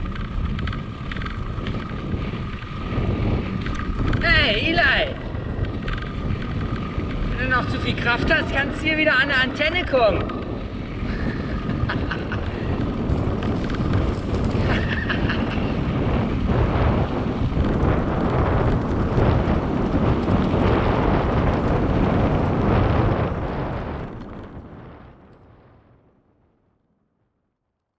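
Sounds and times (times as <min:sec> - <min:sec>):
tyres rolling over dirt: 0:00.0 - 0:24.6
wind buffeting microphone: 0:00.0 - 0:26.8.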